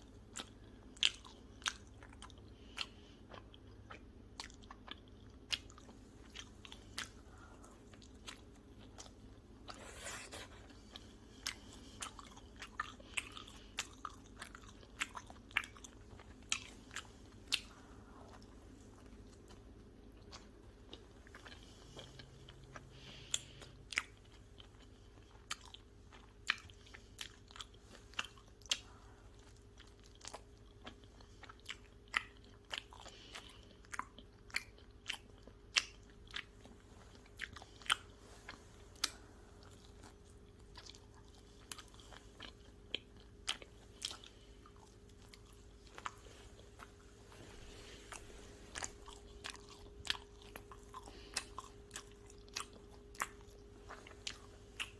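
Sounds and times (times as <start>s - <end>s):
chewing pizza: 0.0s - 54.9s.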